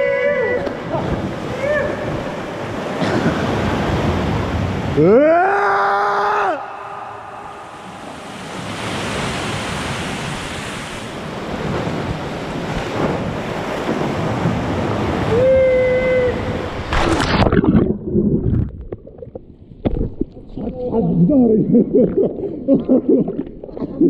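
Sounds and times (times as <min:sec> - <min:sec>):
seawater surging and splashing: 0:00.0 - 0:19.6.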